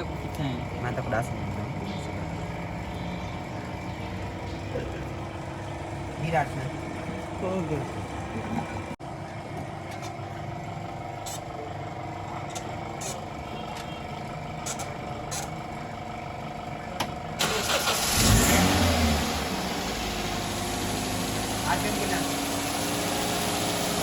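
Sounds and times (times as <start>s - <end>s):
petrol engine running: 0.0s - 24.0s.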